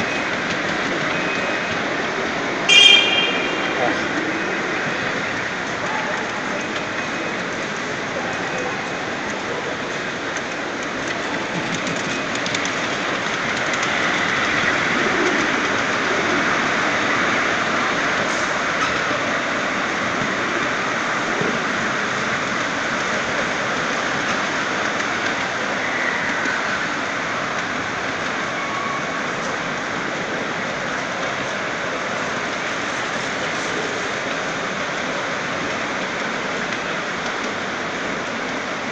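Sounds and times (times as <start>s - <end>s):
miniature train rolling on track: 0.0s - 2.8s, 3.4s - 38.9s.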